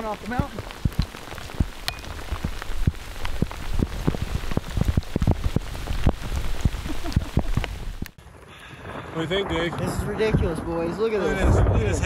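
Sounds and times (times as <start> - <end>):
hail falling: 0.0 - 12.0.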